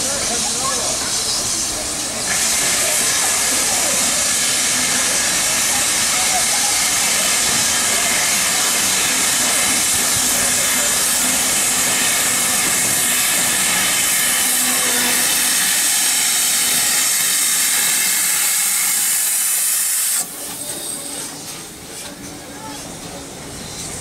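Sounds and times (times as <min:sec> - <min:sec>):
steam hissing from safety valves: 0:00.0 - 0:24.0.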